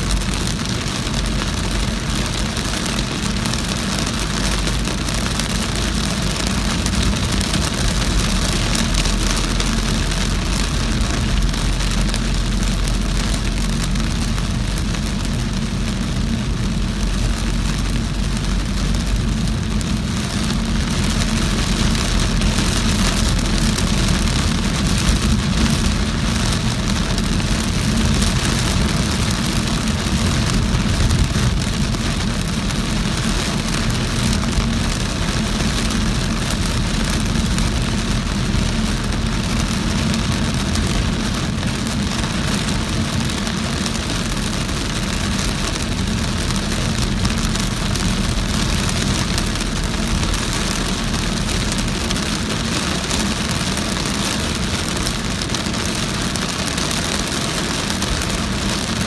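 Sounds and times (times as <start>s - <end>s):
engine and tyres on wet road: 0.0s - 59.0s
heavy rain on a car: 0.0s - 59.0s.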